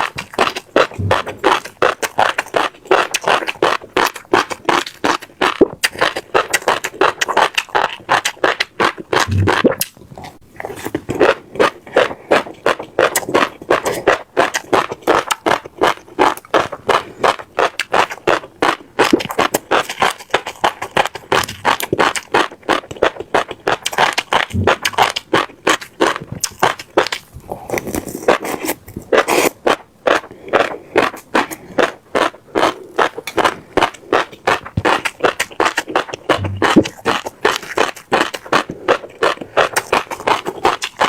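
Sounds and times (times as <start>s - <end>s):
chewing crunchy seeds: 0.0s - 41.0s.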